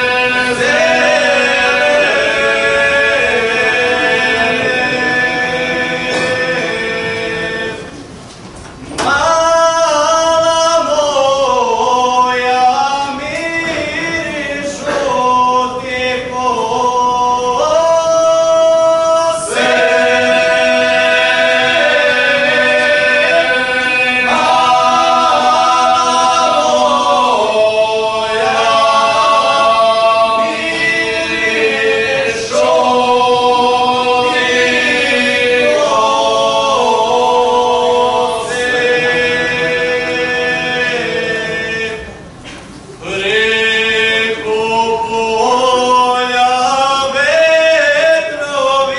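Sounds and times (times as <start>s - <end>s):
men singing a cappella: 0.0s - 8.2s, 9.0s - 42.4s, 43.0s - 48.9s.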